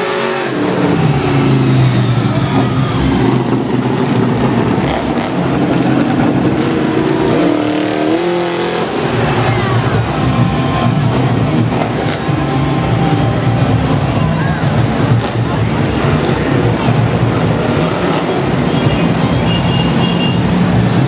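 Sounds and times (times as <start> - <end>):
vehicle engines revving: 0.0 - 21.0.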